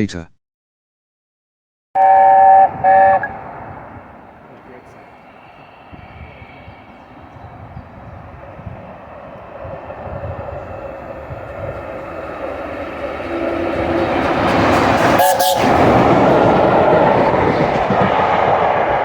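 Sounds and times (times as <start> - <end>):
train rumble and rail noise: 2.0 - 19.0.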